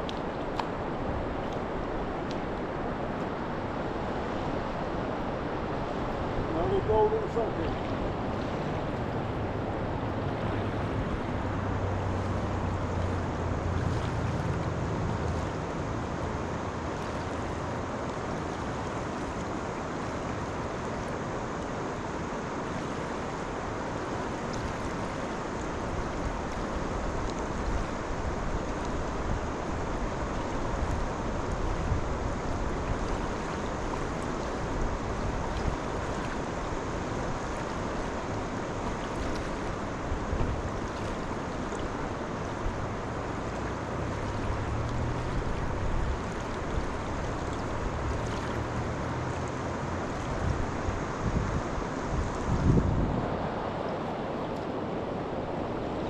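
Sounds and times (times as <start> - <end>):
river water rushing: 0.0 - 56.0
wind rumble on microphone: 0.0 - 56.0.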